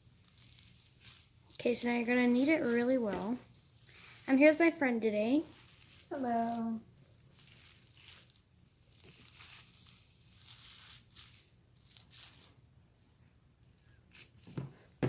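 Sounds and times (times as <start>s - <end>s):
slime crackling and squishing: 0.0s - 12.6s.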